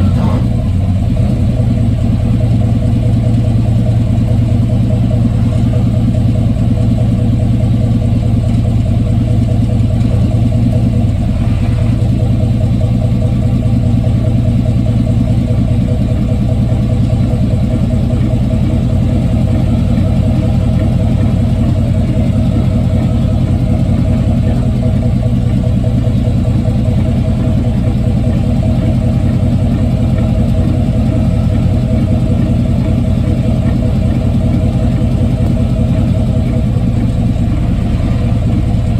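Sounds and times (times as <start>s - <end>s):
truck engine low hum: 0.0s - 38.9s.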